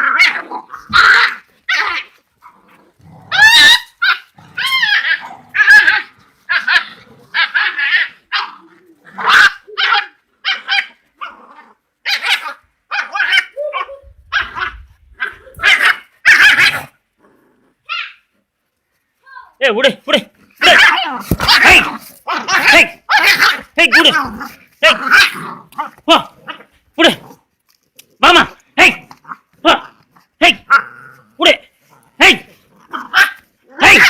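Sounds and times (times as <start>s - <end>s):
puppies barking yelping and growling: 0.0s - 18.4s, 20.4s - 26.9s, 29.0s - 34.0s.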